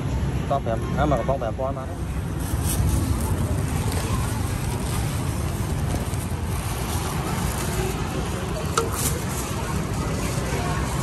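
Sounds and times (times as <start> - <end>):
low outdoor rumble: 1.8 - 11.0.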